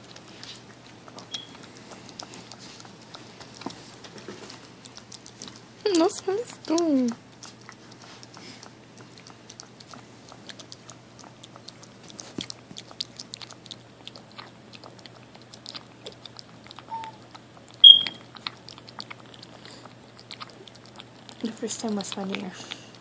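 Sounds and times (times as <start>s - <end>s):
puppy lapping liquid: 0.0s - 23.0s.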